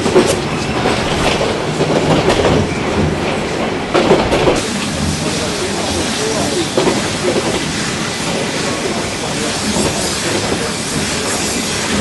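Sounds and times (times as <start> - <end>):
train wheels running on track: 0.0 - 12.0.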